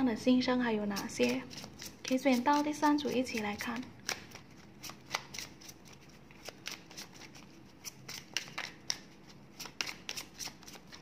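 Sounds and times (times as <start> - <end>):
cards being shuffled: 1.0 - 11.0.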